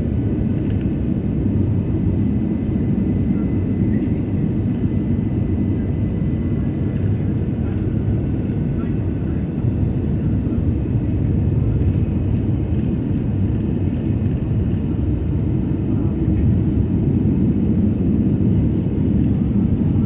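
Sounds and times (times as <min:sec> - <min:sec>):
airplane cabin rumble: 0:00.0 - 0:20.0.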